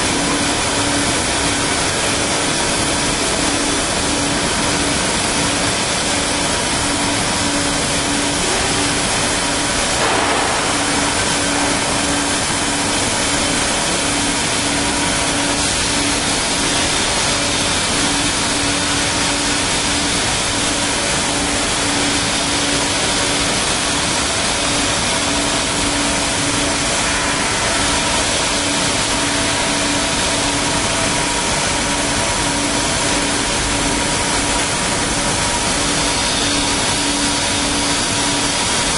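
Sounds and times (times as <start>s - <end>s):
constant machine hum: 0.0s - 38.9s.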